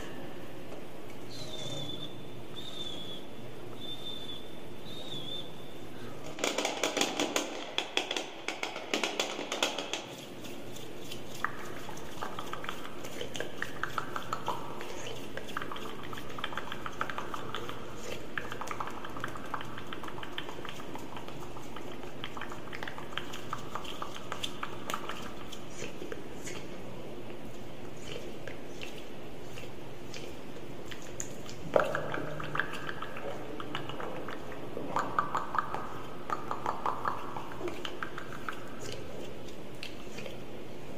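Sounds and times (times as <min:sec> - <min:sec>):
wet mouth clicks and smacks: 0:07.7 - 0:40.9.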